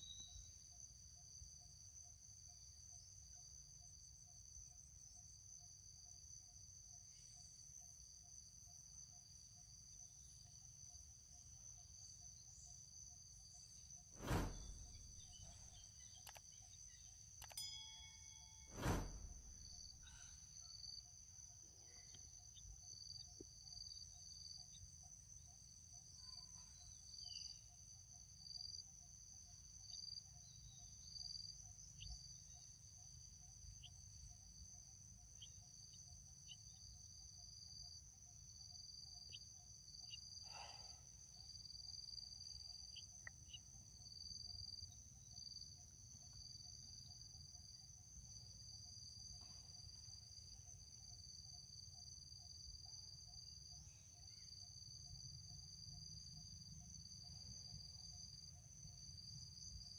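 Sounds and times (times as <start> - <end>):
high-pitched insect trill: 0.0 - 59.9
lower pulsing insect call: 0.0 - 59.9.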